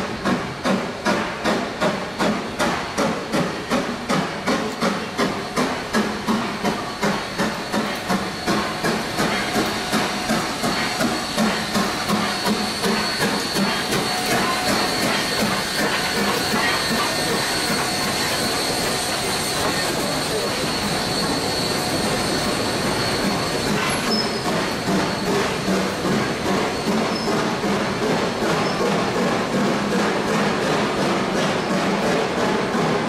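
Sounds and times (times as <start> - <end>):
hiss of exhaust steam: 0.0 - 33.0
steam locomotive exhaust chuffs: 0.0 - 33.0.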